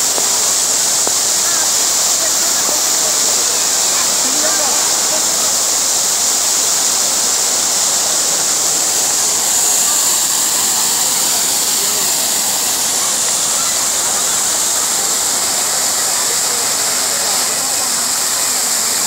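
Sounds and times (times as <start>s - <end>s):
fountain water rushing: 0.0s - 19.0s.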